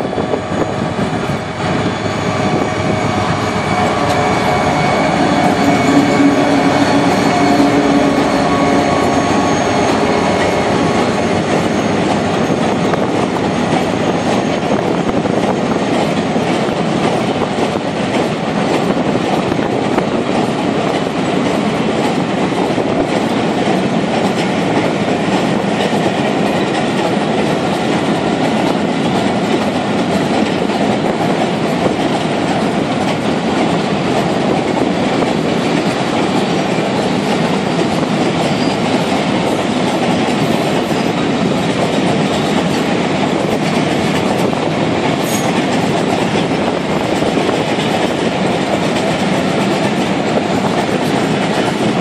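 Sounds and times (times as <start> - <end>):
diesel locomotive working hard: 0.0 - 52.0
train wagons clickety-clack: 0.0 - 52.0.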